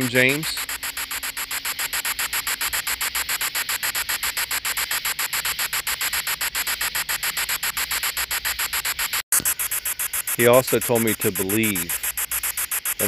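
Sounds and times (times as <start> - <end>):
pulsing choppy static: 0.0 - 13.0.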